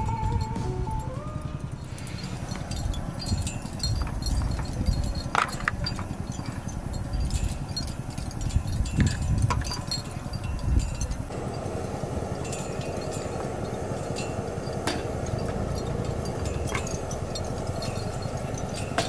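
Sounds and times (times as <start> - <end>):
low uneven rumble: 0.0 - 19.0.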